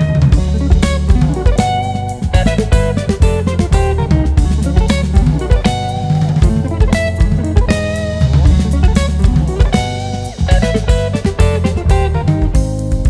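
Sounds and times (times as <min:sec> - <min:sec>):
drum kit: 0:00.0 - 0:13.0
electric bass: 0:00.0 - 0:13.0
electric guitar melody: 0:00.0 - 0:13.0.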